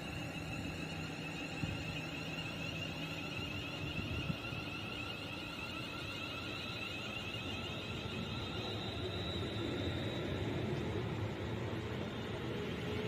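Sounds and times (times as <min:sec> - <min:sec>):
electric train whine: 0:00.0 - 0:13.0
train running rumble: 0:00.0 - 0:13.0.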